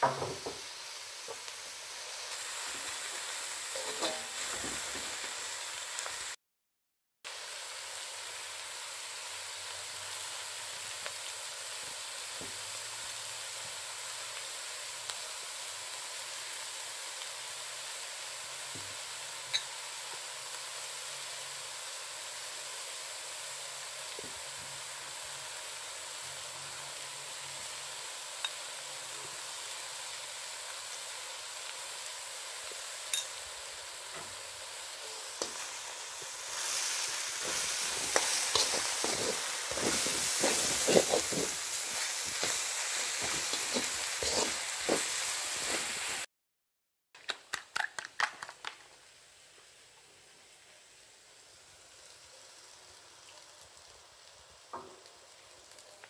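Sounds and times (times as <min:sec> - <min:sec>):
vegetables sizzling in a wok: 0:00.0 - 0:06.4, 0:07.3 - 0:46.3, 0:48.9 - 0:56.0.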